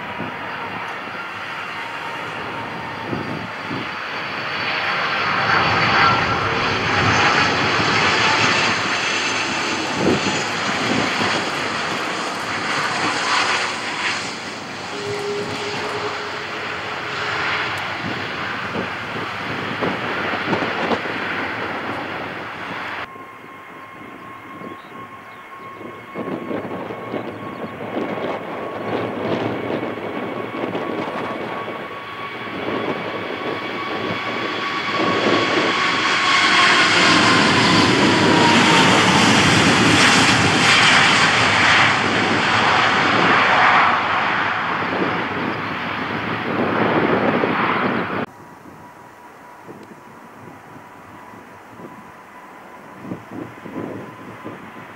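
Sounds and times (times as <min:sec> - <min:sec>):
jet airliner landing: 0:00.0 - 0:54.9
jet airliner taking off: 0:00.0 - 0:54.9.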